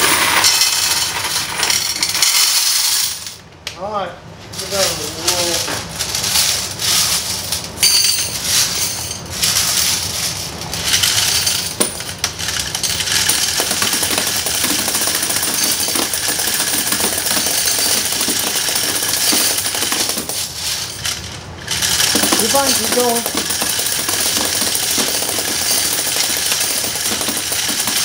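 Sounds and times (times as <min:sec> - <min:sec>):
coin counting machine clattering: 0:00.0 - 0:03.4, 0:04.8 - 0:28.0
coins spilling: 0:00.0 - 0:03.4, 0:05.2 - 0:28.0.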